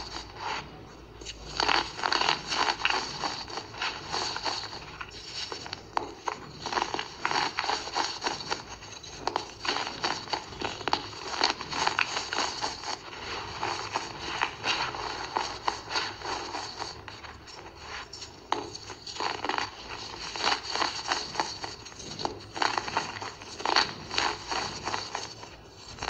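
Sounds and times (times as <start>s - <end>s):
powder lumps crunching: 0.0s - 26.0s.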